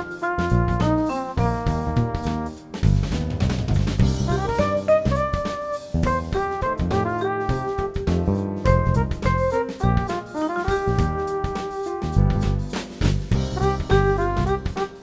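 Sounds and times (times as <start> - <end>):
jazz instrumental music: 0.0 - 15.0.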